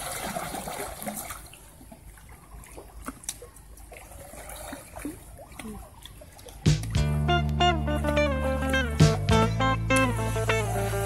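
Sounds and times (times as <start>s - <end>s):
pool water lapping: 0.0s - 11.0s.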